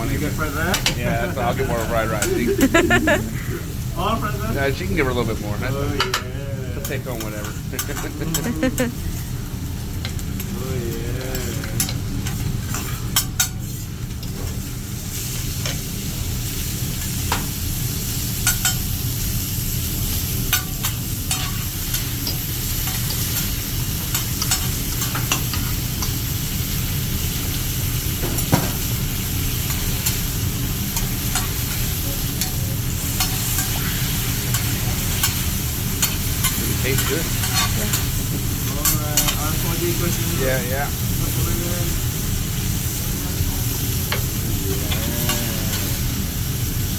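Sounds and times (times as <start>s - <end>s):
food sizzling on a griddle: 0.0s - 46.9s.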